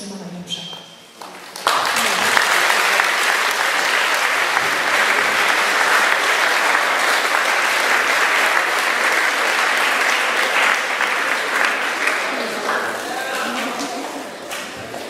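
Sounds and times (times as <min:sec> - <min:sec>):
audience applauding: 0:01.2 - 0:15.0.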